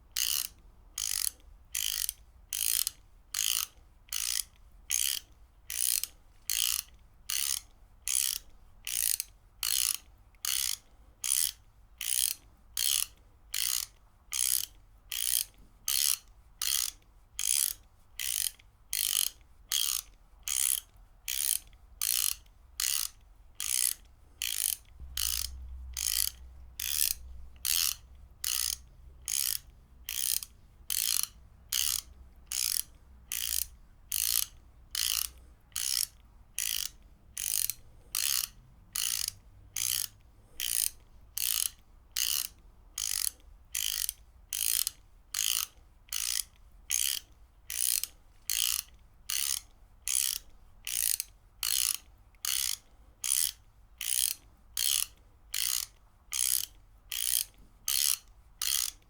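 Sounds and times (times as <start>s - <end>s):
ratchet wrench clicking: 0.2s - 59.0s.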